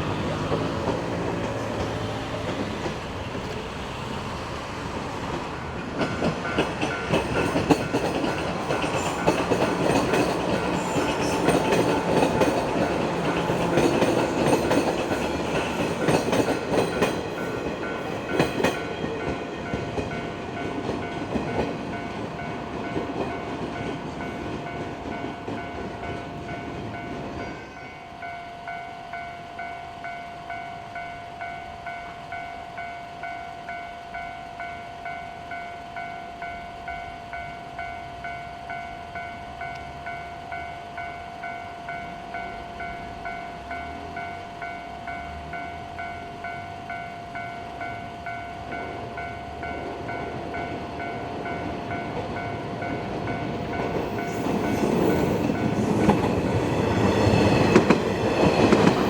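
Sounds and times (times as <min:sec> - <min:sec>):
train wheels clattering on rails: 0:00.0 - 0:28.3, 0:39.1 - 0:59.0
level crossing warning bell: 0:06.0 - 0:59.0.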